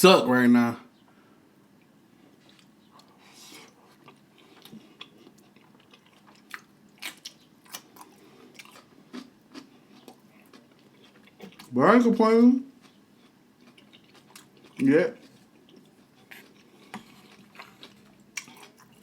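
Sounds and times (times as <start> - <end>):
chewing with wet mouth smacking: 2.4 - 11.7, 12.8 - 19.0.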